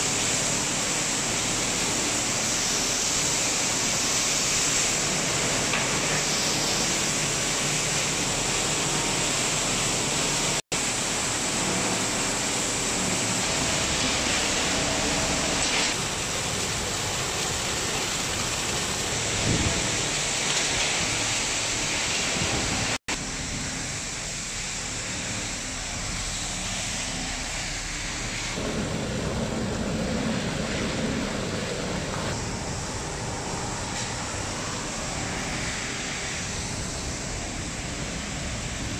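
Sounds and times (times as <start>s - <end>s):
machinery hiss and rumble: 0.0s - 38.9s.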